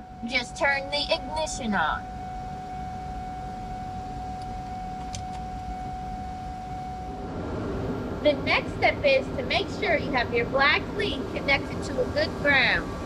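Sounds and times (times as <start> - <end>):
electronic warning tone: 0.0 - 7.4, 8.2 - 13.0
low steady rumble: 0.0 - 13.0.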